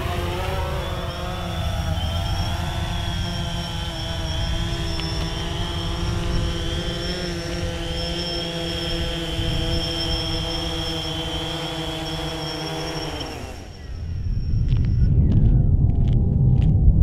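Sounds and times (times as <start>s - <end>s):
drone propellers whining: 0.0s - 16.8s.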